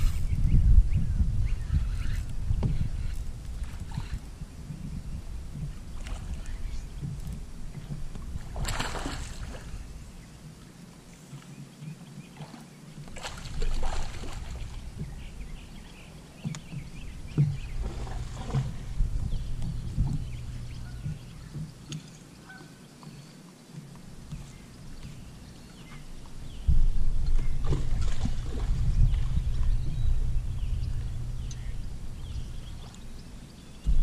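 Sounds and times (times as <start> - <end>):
wind rumbling on microphone: 0.0 - 10.6, 13.0 - 22.6, 24.1 - 34.0.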